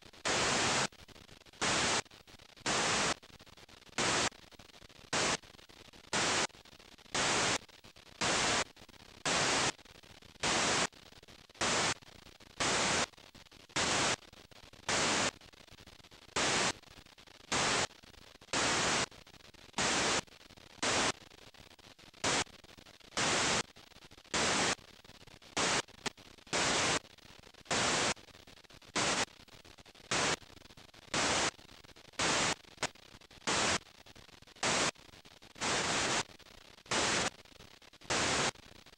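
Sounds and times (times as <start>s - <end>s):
faint tape hiss: 0.0s - 38.9s
videotape static hiss bursts: 0.0s - 38.9s.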